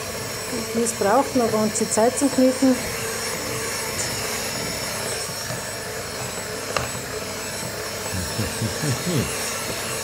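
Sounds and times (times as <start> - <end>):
electric hand mixer running: 0.0 - 10.0.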